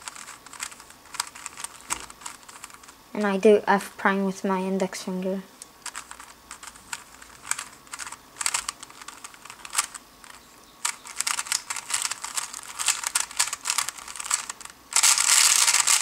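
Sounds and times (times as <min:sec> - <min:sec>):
puzzle cube layers clicking: 0:00.0 - 0:03.0, 0:05.7 - 0:16.0.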